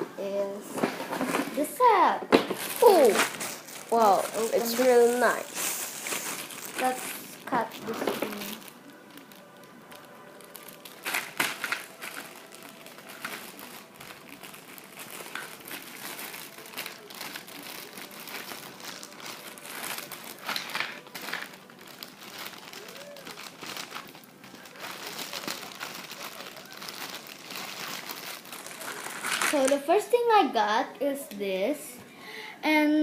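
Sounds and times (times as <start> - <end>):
plastic packaging crinkling: 0.7 - 30.0.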